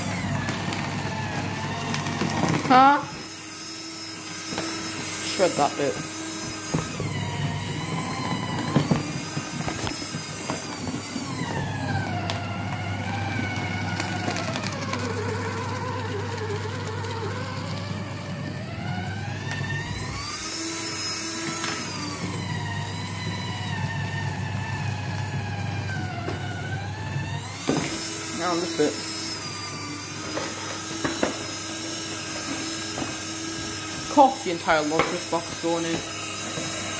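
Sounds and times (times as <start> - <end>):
paper shredder motor humming: 0.0 - 36.9.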